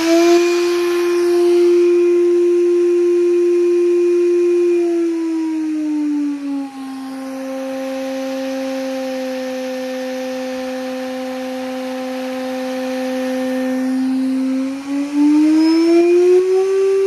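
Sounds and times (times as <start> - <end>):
spindle motor whine: 0.0 - 17.0.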